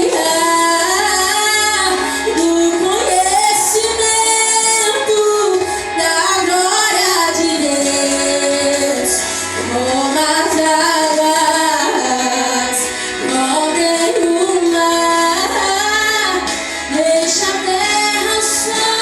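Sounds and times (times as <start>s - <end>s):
instrumental backing music: 0.0s - 19.0s
woman singing worship song: 0.0s - 19.0s.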